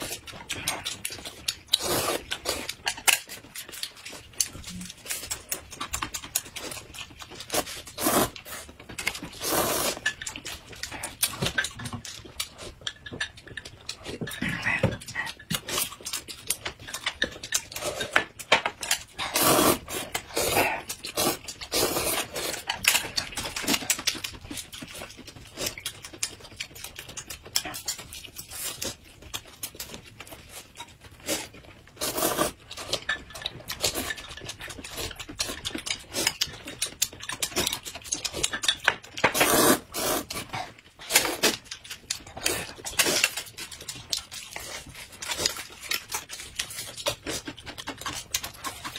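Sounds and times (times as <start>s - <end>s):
people chewing and slurping: 0.0s - 48.9s.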